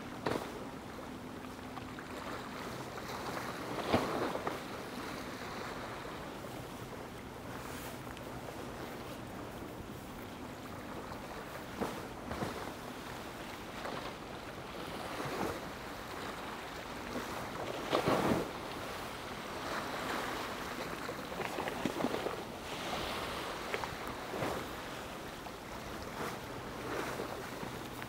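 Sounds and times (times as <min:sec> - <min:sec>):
small waves washing against seawall: 0:00.0 - 0:28.0.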